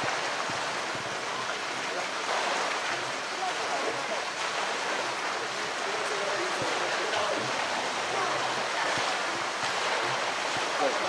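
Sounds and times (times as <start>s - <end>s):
water rushing and splashing: 0.0s - 11.0s.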